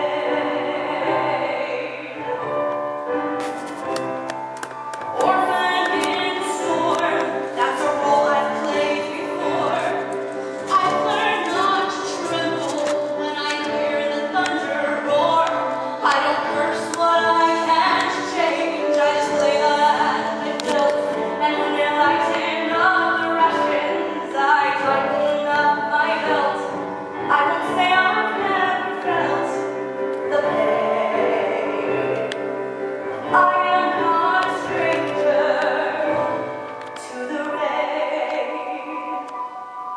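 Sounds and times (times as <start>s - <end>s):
woman singing a ballad: 0.0s - 2.4s, 5.2s - 32.5s, 33.2s - 39.6s
instrumental accompaniment: 0.0s - 39.9s.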